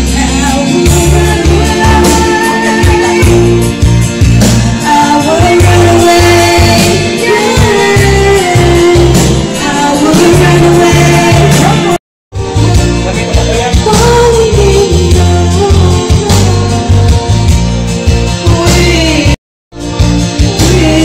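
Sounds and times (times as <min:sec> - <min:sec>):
person singing into a microphone: 0:00.0 - 0:17.3, 0:18.2 - 0:19.4, 0:20.0 - 0:21.0
backing track with pulsing bass: 0:00.0 - 0:21.0.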